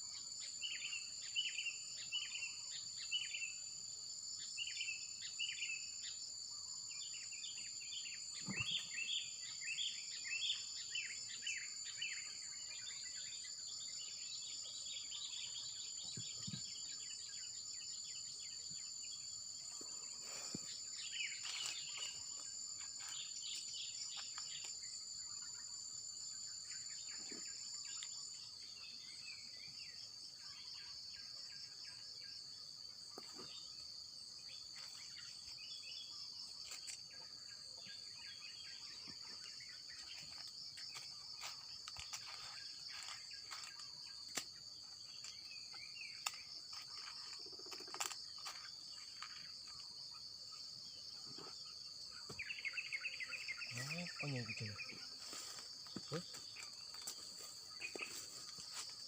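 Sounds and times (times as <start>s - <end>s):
insects droning: 0.0s - 59.0s
birds chirping: 7.2s - 32.1s, 34.4s - 59.0s.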